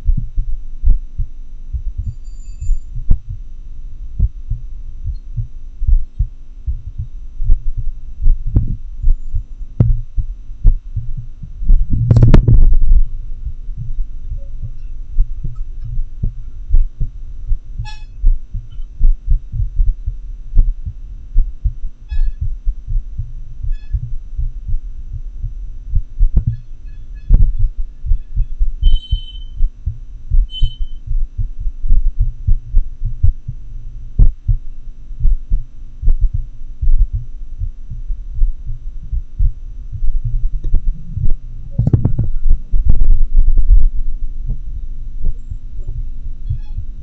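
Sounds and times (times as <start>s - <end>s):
heartbeat thuds: 0.0s - 47.0s.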